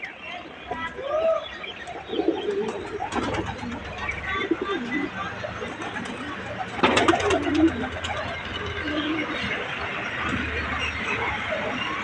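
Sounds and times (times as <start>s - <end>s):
pigeons cooing: 1.5s - 12.0s.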